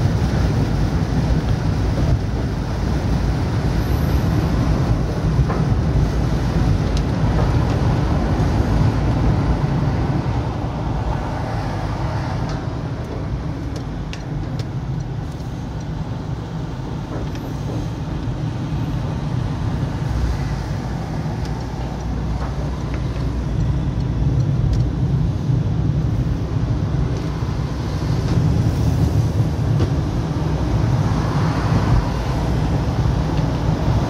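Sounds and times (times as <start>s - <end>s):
engine and tyre rumble: 0.0s - 34.0s.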